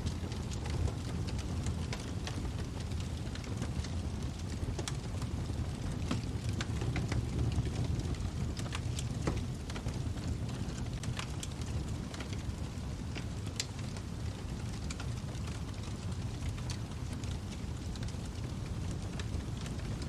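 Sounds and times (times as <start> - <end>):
fire flames rumbling: 0.0 - 20.0
wood crackling and popping: 0.0 - 20.0.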